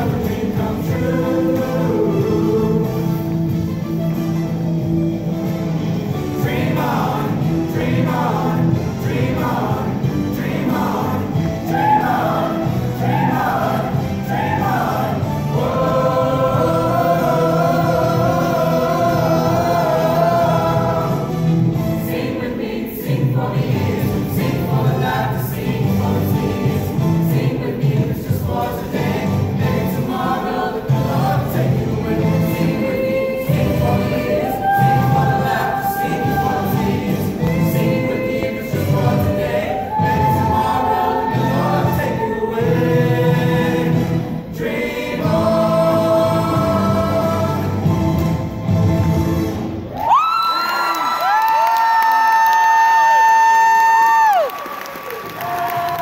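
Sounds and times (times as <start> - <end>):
choir singing: 0.0 - 4.0, 5.7 - 49.6.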